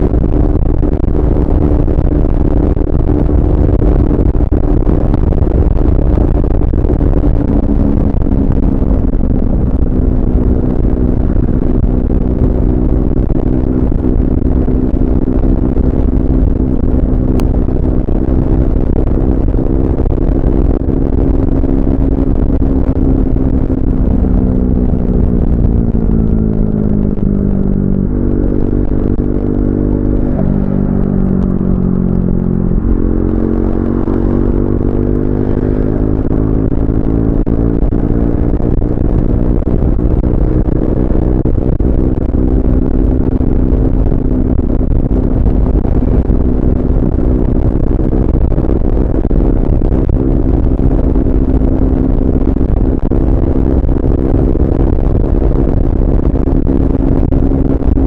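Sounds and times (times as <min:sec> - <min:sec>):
motorcycle engine running: 0:00.0 - 0:58.0
wind and road rumble: 0:00.0 - 0:58.0.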